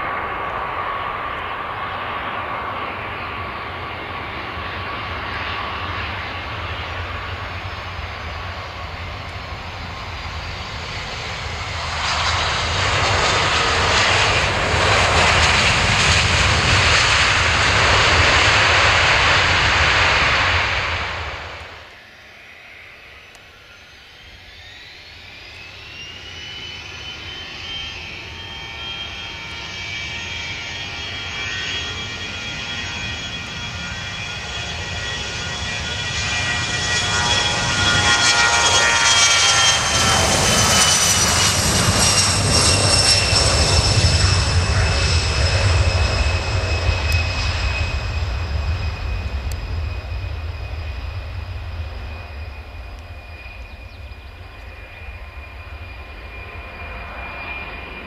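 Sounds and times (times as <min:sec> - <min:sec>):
jet engines whining and rumbling: 0:00.0 - 0:58.0.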